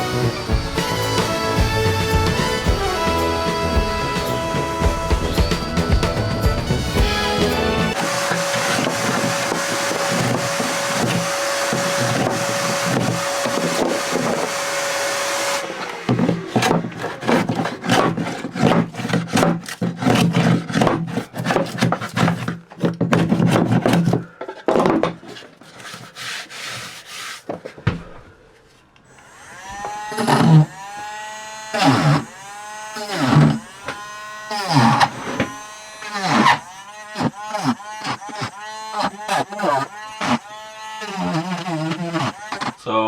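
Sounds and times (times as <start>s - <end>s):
power sander on plywood: 0.0s - 24.2s, 29.1s - 43.0s.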